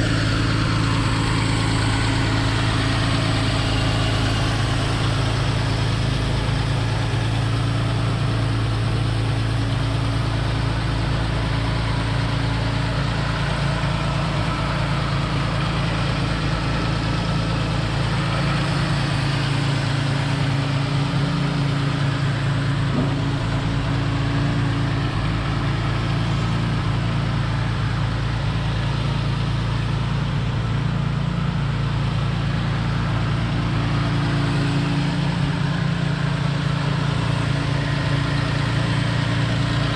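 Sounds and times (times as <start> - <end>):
car engine fast idling: 0.0 - 39.9.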